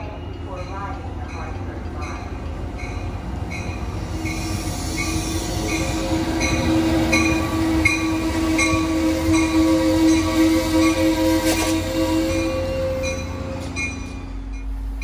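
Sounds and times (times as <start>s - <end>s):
train bell ringing: 0.0s - 11.3s, 12.0s - 15.0s
train wheels rumbling on rails: 0.0s - 15.0s.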